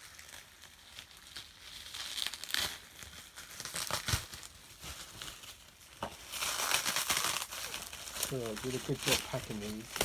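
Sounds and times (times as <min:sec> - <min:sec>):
packing material crinkling and tearing: 0:00.0 - 0:10.0.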